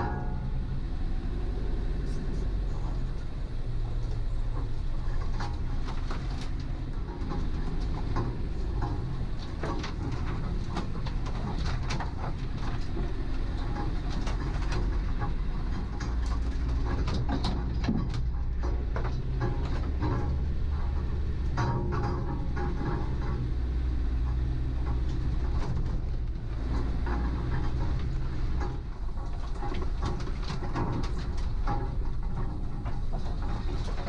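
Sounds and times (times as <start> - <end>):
vehicle engine droning: 0.0 - 34.0
vehicle knocks and rattles: 0.0 - 34.0.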